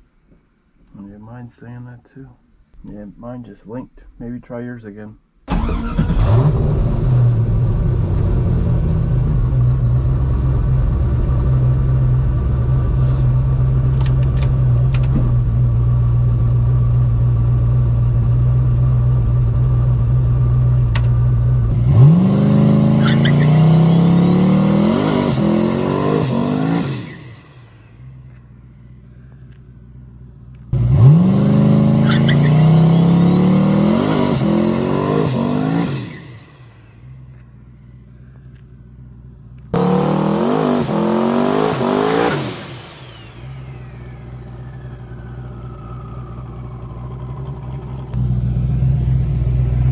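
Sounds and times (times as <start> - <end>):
turbo whine: 0.0 - 49.9
drag car engine revving: 5.5 - 28.4, 29.2 - 37.4, 38.2 - 49.9.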